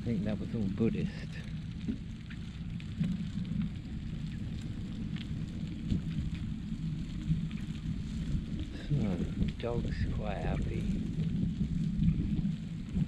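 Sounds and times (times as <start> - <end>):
small clicks and crackles: 0.0 - 13.0
wind on microphone: 0.0 - 13.0.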